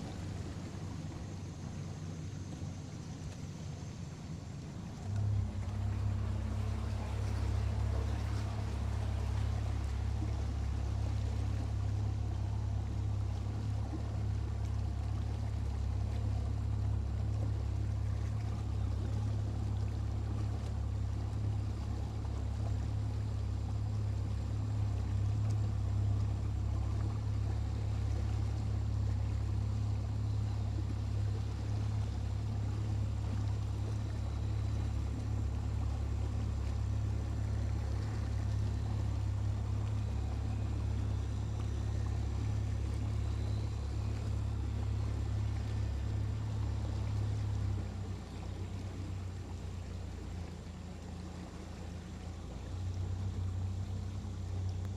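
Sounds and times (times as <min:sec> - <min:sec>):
boat motor droning: 0:00.0 - 0:54.9
water noise: 0:00.0 - 0:54.9.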